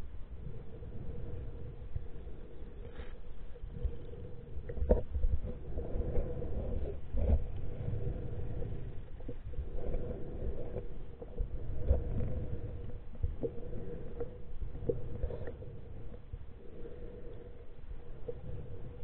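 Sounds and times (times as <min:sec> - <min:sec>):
faint steady hum: 0:00.0 - 0:19.0
underwater river rumble: 0:00.0 - 0:19.0.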